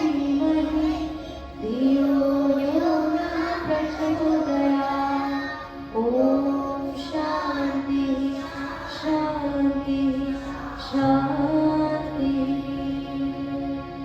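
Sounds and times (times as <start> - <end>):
children singing: 0.0 - 13.6
musical accompaniment: 0.0 - 14.0.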